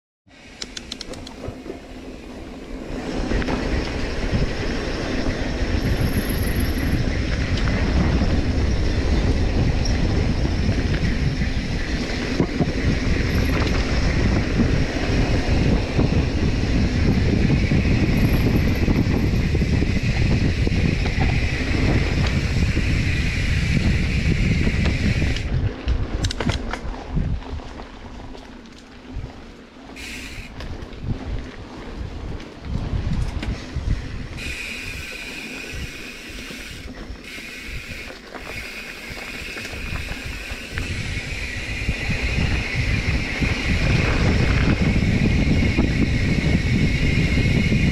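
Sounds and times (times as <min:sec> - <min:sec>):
bike rattling: 0:00.4 - 0:47.9
tyres rumbling over rough trail: 0:00.4 - 0:47.9
wind on microphone: 0:00.7 - 0:28.3, 0:29.0 - 0:47.9.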